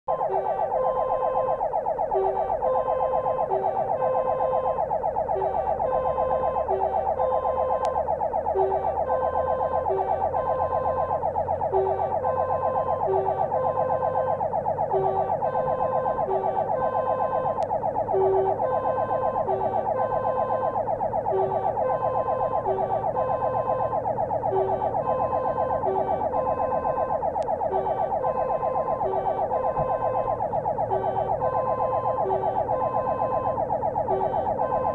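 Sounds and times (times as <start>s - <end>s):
fire engine siren wailing: 0.1s - 34.9s
vehicle rumble: 0.1s - 34.9s.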